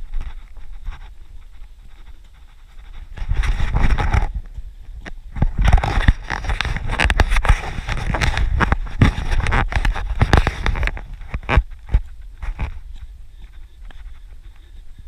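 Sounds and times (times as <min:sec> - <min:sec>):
footsteps on dirt path: 0:00.0 - 0:15.0
wind rumble on microphone: 0:00.0 - 0:15.0.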